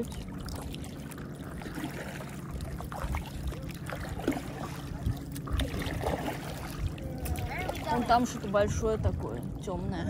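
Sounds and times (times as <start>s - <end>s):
small splashes and drips: 0.0s - 9.7s
low rumble: 0.0s - 10.0s
water lapping around paddleboard: 0.0s - 10.0s.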